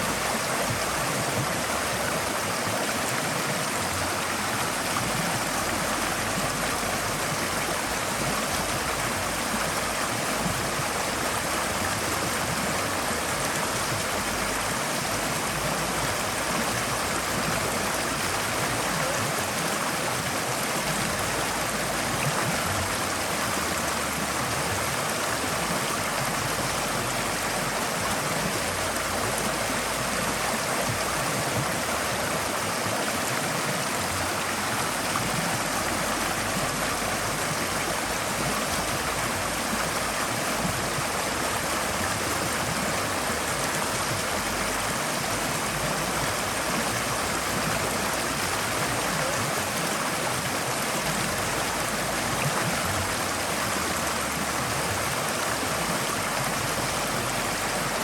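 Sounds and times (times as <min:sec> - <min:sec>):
stream water rushing over stones: 0:00.0 - 0:58.0.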